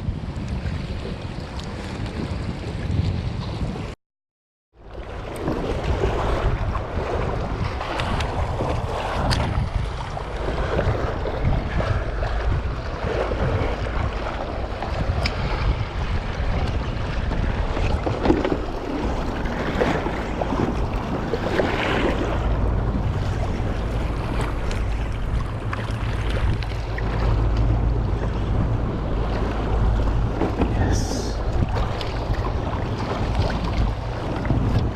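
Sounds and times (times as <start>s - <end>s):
water sloshing against hull: 0.0s - 4.0s, 4.8s - 34.9s
wind buffeting microphone: 0.0s - 4.0s, 4.8s - 34.9s.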